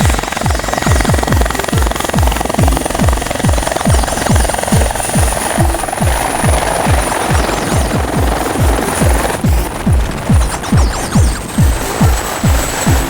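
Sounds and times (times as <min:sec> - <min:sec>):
electronic dance music: 0:00.0 - 0:13.0
fast kick drum: 0:00.0 - 0:13.0
noisy background: 0:00.0 - 0:13.0.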